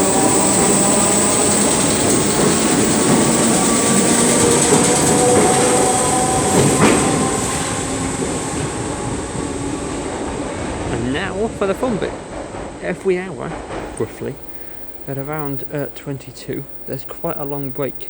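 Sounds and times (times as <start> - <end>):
train wheels rumbling on rail: 0.0 - 18.0
whine of train running gear: 0.0 - 18.0.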